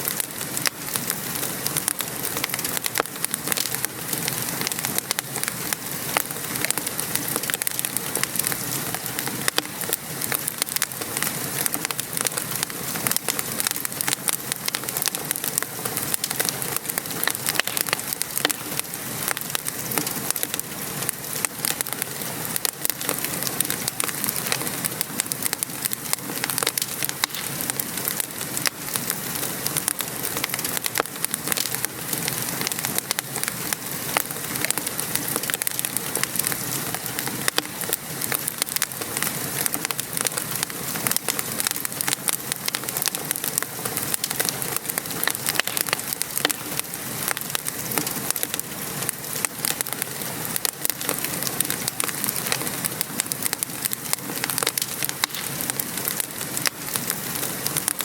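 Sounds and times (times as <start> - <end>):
rain pattering: 0.0 - 58.0
wood fire crackling and popping: 0.0 - 58.0.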